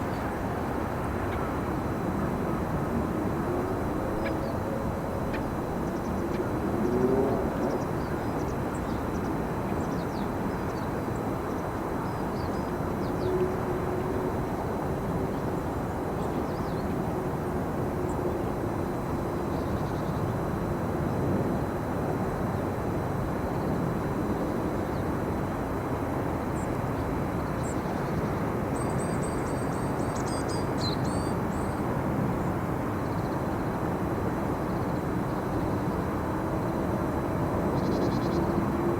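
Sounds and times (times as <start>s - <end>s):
faint drawn-out hum: 0.0s - 38.9s.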